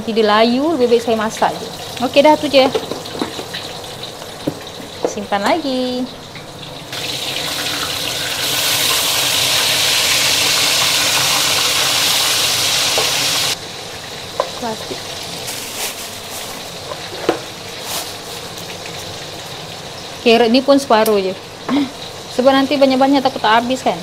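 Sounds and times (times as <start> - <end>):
water running from kitchen tap: 0.2 - 24.0
steady sizzle with small clicks: 0.8 - 24.0.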